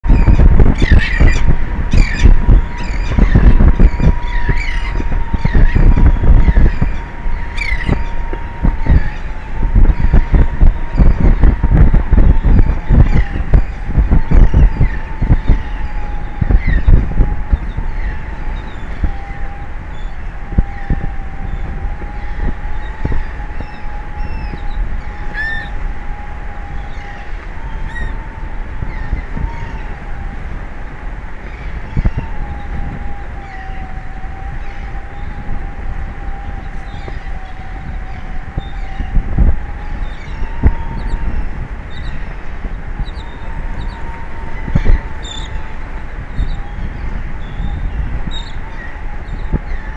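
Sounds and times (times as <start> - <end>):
seabird calling: 0.0 - 30.6, 31.3 - 49.9
steady high-pitched hum: 0.0 - 49.9
wind buffeting microphone: 0.0 - 49.9.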